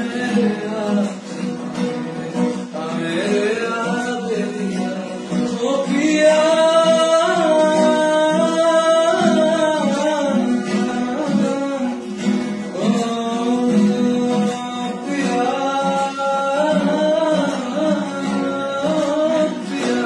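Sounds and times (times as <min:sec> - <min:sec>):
acoustic guitar: 0:00.0 - 0:20.0
man singing: 0:00.0 - 0:20.0.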